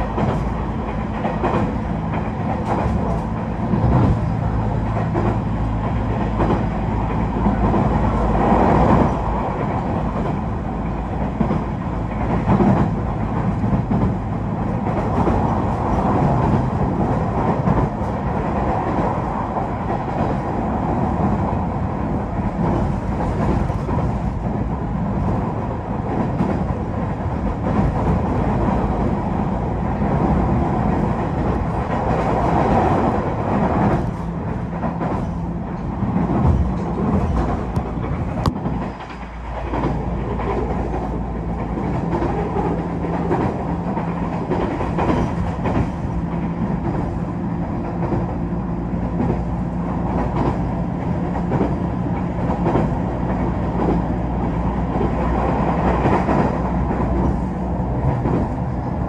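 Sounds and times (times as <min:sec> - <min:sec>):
wheels clicking over rail joints: 0:00.0 - 0:59.0.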